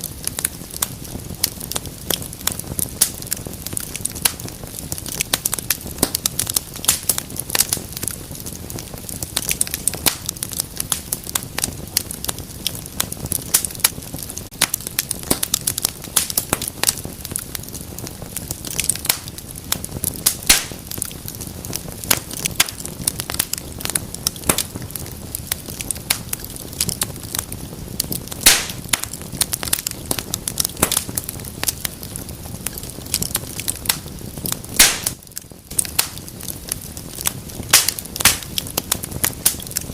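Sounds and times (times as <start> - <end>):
rush of flames: 0.0 - 39.9
wood fire crackling and popping: 0.0 - 39.9.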